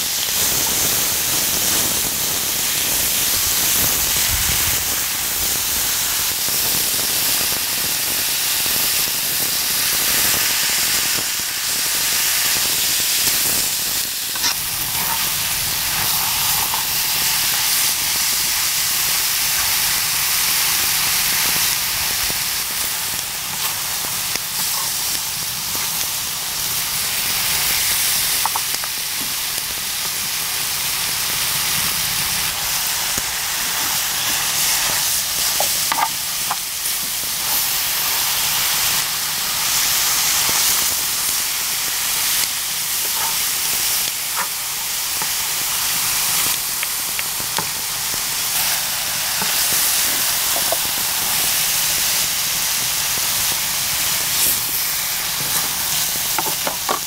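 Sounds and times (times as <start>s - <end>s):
meat sizzling on hot griddle: 0.0s - 57.0s.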